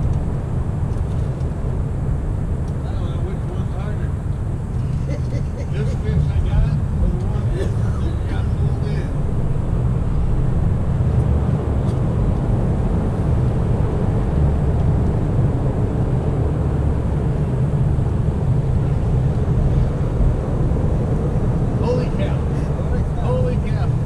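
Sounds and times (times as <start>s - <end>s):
low rumbling noise: 0.0s - 24.0s.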